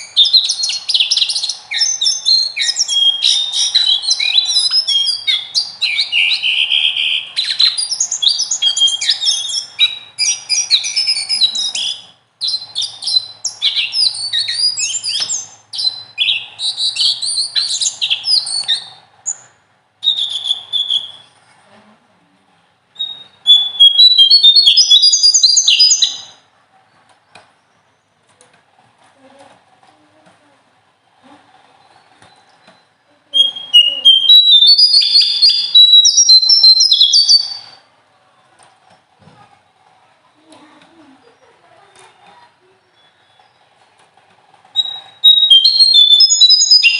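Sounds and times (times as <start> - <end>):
songbird singing: 0.0 - 21.5, 23.0 - 28.2, 31.7 - 37.9, 41.0 - 43.8, 44.8 - 46.9.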